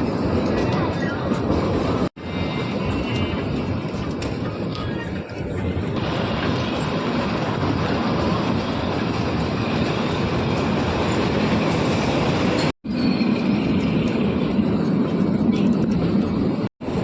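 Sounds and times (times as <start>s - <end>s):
train wheels on track: 0.0s - 17.0s.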